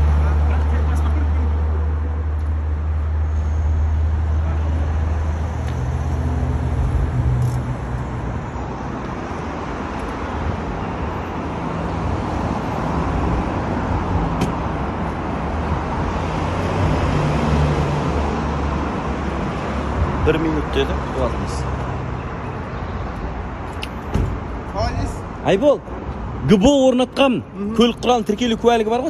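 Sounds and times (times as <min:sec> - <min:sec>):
road traffic: 0:00.0 - 0:29.0.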